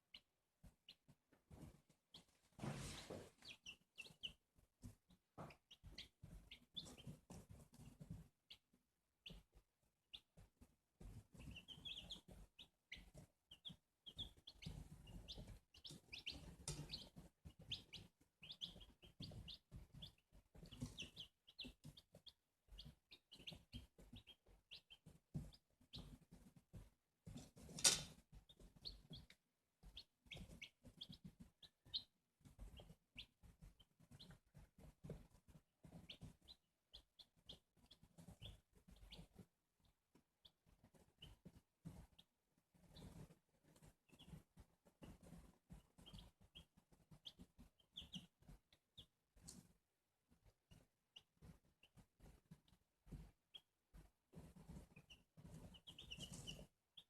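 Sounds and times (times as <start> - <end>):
chicks peeping: 0.1 - 49.8, 50.4 - 57.0.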